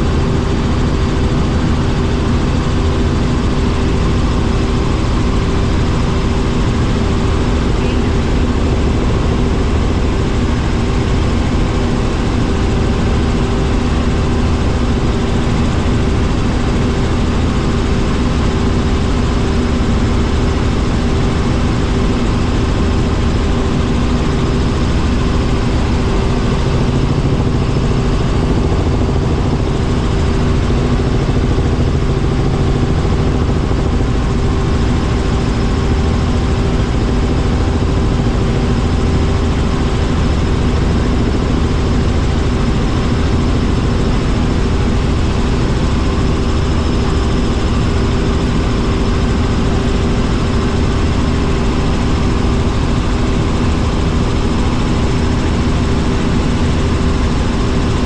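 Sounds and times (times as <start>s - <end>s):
helicopter engine and rotors droning: 0.0s - 58.0s.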